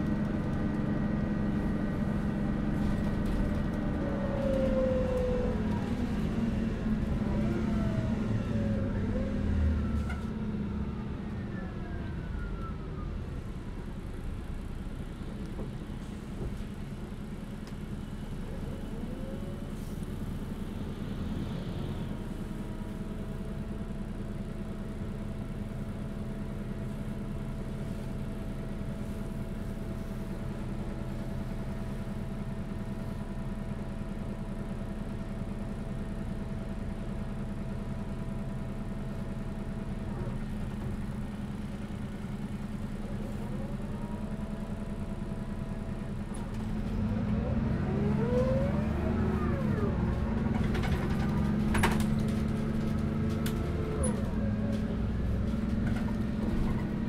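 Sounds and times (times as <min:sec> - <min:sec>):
bus engine whine and drone: 0:00.0 - 0:57.0.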